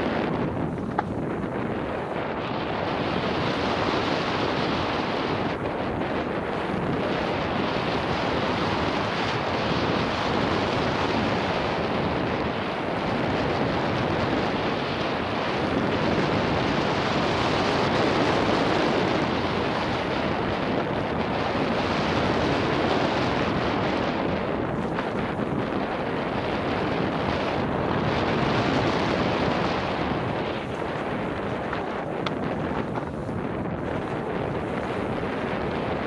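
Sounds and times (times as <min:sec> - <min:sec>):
bike tyre and trail noise: 0:00.0 - 0:36.0
wind buffeting microphone: 0:00.0 - 0:36.0.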